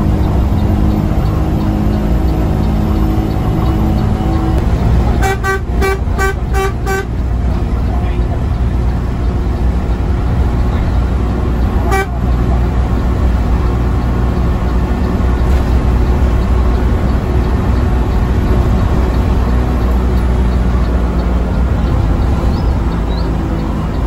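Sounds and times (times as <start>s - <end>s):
coach engine and road drone: 0.0s - 24.0s.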